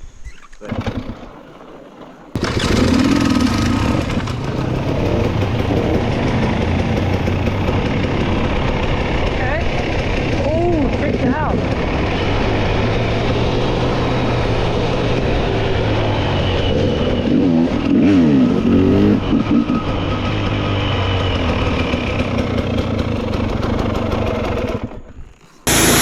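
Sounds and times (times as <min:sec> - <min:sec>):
dirt bike engine revving: 0:02.3 - 0:26.0.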